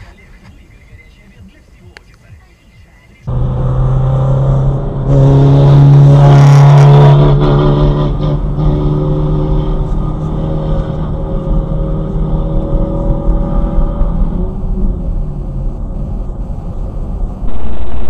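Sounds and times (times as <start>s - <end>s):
car engine hum: 0.0s - 18.0s
road noise: 0.0s - 18.0s.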